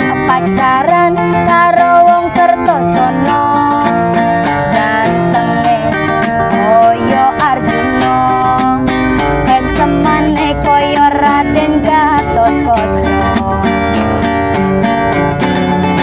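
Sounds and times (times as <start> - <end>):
woman singing pop song: 0.0 - 14.6
plucked guitar accompaniment: 0.0 - 16.0.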